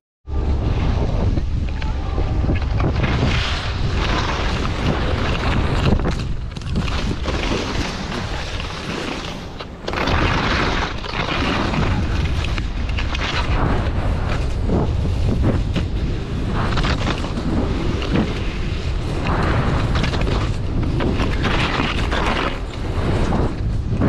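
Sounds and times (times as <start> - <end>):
wind buffeting microphone: 0.3 - 24.0
skis sliding on snow: 2.5 - 24.0.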